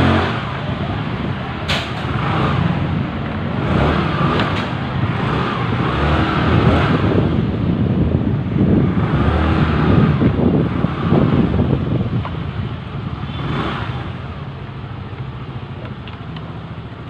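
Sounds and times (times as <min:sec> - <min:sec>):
scooter engine revving: 0:00.0 - 0:17.0.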